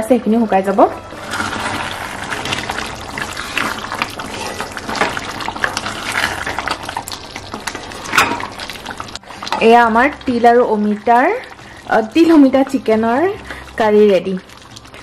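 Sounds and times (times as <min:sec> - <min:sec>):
wooden spatula stirring: 0:00.6 - 0:15.0
curry simmering and bubbling: 0:01.0 - 0:15.0.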